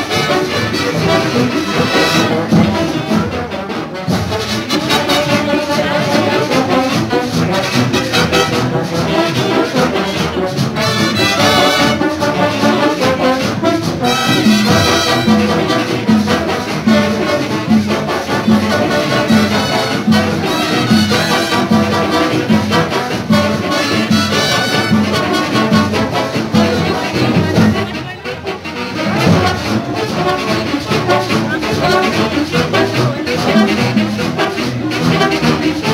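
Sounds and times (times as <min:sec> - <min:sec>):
marching band brass music: 0:00.0 - 0:35.9.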